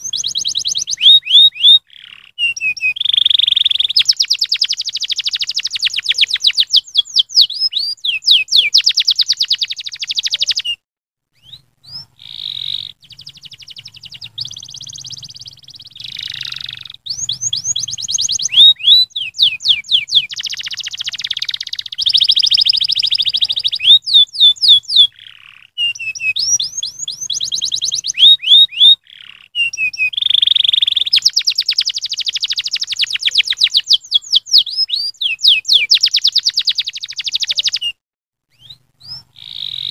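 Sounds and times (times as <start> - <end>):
canary singing trills: 0.0 - 10.8, 11.4 - 39.9.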